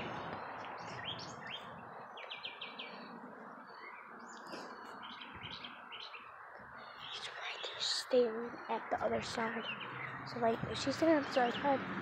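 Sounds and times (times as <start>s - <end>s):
faint outdoor background noise: 0.0s - 12.0s
songbirds chirping: 0.0s - 12.0s.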